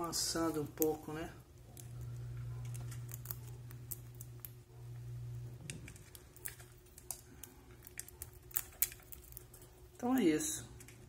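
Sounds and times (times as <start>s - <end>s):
birds pecking seed in plastic dish: 0.0s - 11.0s
low steady hum: 0.0s - 11.0s.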